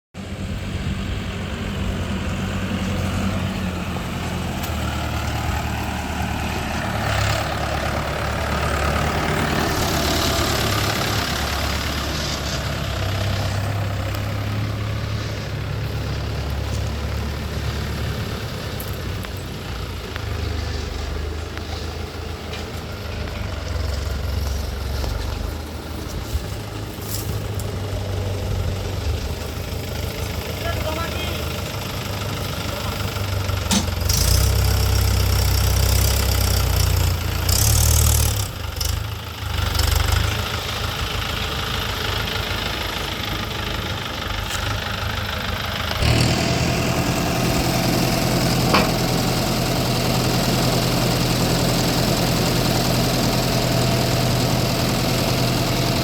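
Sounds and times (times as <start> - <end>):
heavy diesel engine running: 0.2 - 56.0.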